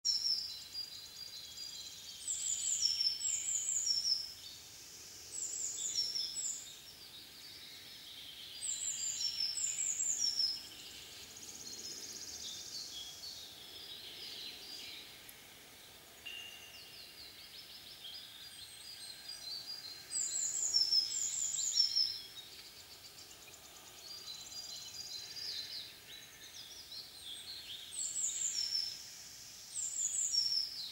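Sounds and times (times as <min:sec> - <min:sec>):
soft bird chirps: 0:00.0 - 0:30.9.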